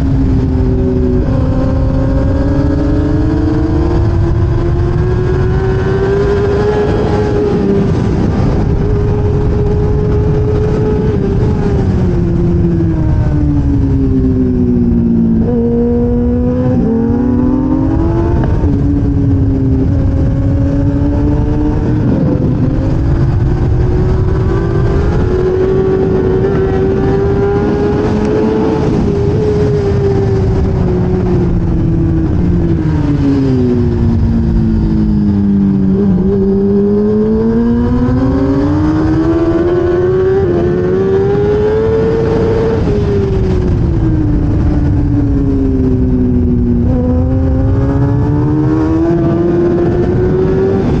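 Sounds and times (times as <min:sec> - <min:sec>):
racing motorcycle engine: 0:00.0 - 0:51.0.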